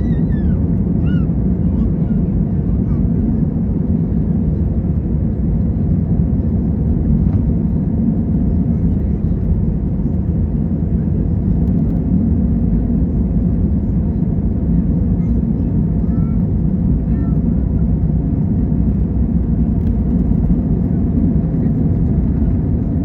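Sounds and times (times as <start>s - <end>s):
jet engines rumbling in cabin: 0.0s - 23.0s.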